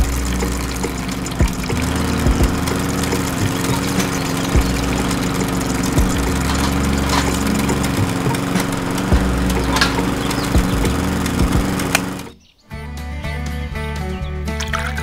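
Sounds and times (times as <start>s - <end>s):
small motor humming: 0.0s - 12.4s.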